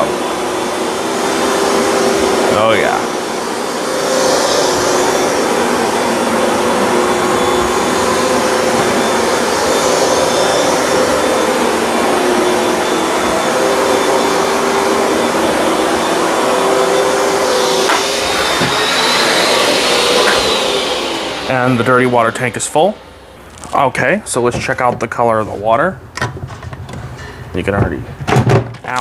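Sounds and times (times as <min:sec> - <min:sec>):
carpet cleaner motor running: 0:00.0 - 0:23.8.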